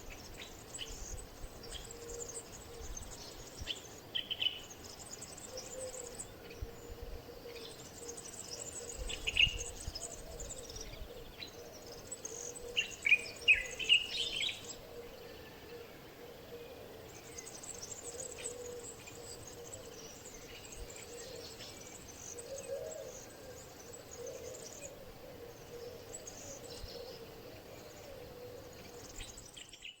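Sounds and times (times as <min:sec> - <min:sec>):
birds chirping and calling: 0:00.0 - 0:30.0
steady background hiss: 0:00.0 - 0:30.0.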